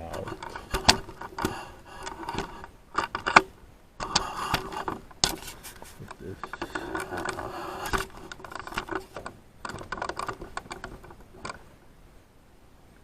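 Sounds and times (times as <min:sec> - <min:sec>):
hand tool scraping metal: 0:00.0 - 0:03.4, 0:04.0 - 0:11.2
light metallic clicks and rattles: 0:00.0 - 0:11.7.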